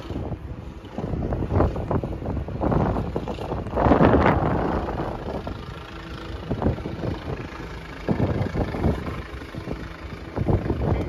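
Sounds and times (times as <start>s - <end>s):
faint engine hum: 0.0s - 11.0s
wind buffeting microphone: 0.0s - 11.0s.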